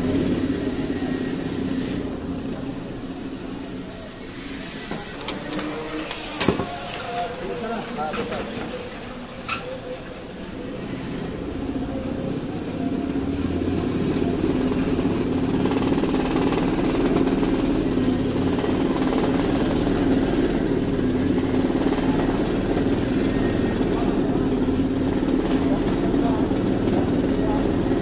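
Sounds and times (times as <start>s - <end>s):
cotton candy machine motor humming: 0.0s - 28.0s.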